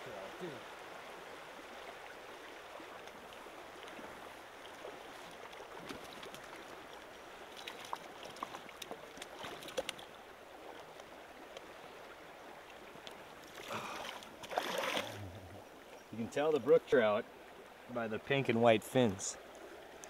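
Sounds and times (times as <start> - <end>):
stream water rushing: 0.0 - 20.0
small water splashes: 0.4 - 17.9.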